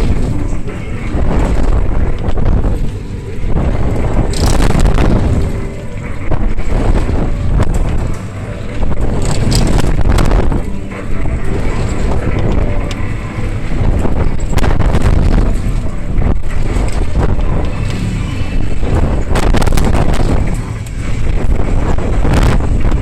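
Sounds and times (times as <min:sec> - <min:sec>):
ride clattering: 0:00.0 - 0:23.0
ride rumbling: 0:00.0 - 0:23.0
wind buffeting microphone: 0:00.0 - 0:23.0.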